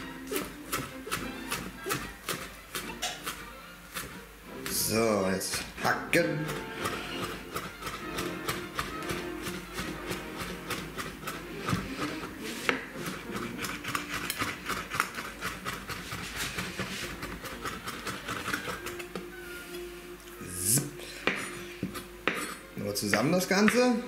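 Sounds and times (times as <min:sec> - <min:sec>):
knife chopping on wooden board: 0:00.3 - 0:04.1, 0:05.5 - 0:19.0, 0:20.8 - 0:23.9.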